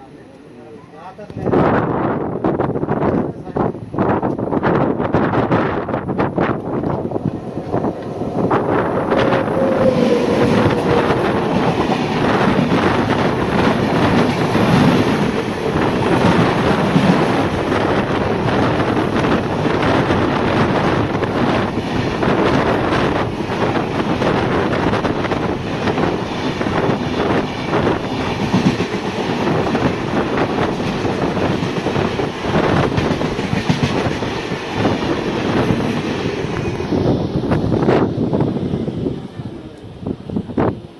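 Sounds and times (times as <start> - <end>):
train passing at high speed: 1.2 - 40.9.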